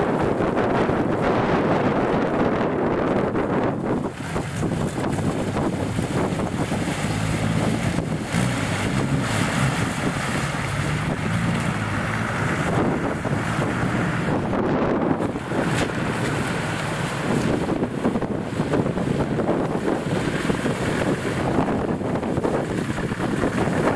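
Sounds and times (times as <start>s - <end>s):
car engine running: 0.0s - 23.9s
wind buffeting microphone: 0.0s - 23.9s
water sloshing and splashing: 3.8s - 23.9s.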